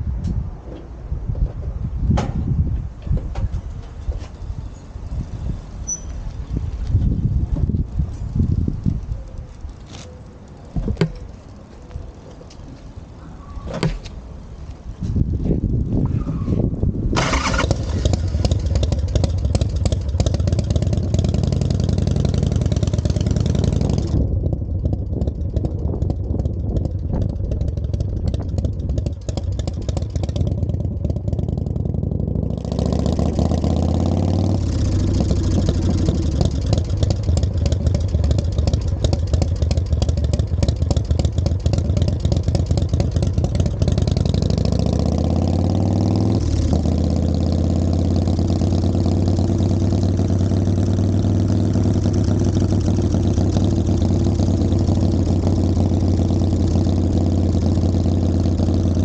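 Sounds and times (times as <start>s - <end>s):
motorcycle engine running: 5.1s - 12.0s, 15.0s - 59.0s.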